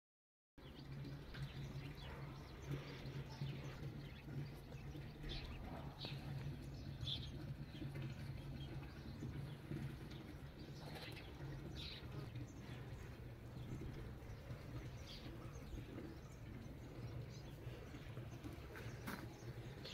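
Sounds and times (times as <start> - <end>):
small birds chirping: 0.6 - 19.9.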